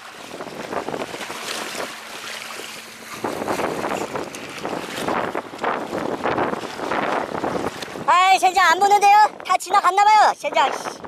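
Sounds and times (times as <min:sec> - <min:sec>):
waves washing against rocks: 0:00.0 - 0:11.0
wind buffeting microphone: 0:00.0 - 0:11.0.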